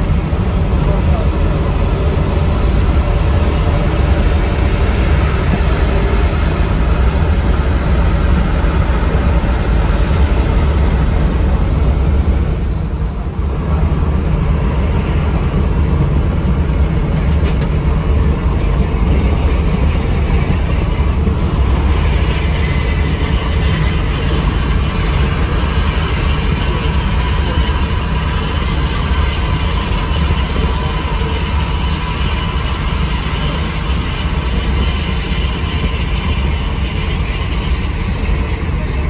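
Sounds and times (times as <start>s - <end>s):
coach diesel engine rumble: 0.0s - 39.0s
tyres on the road: 0.0s - 39.0s.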